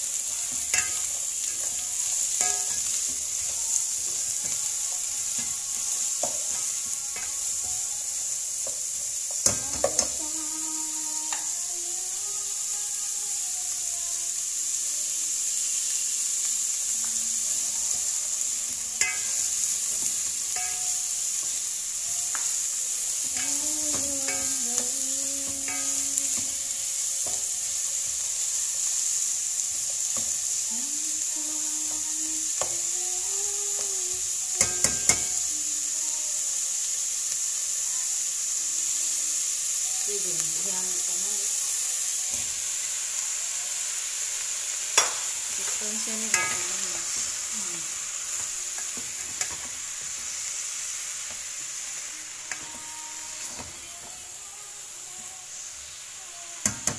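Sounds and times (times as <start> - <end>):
onions and pepper sizzling: 0.0 - 56.9.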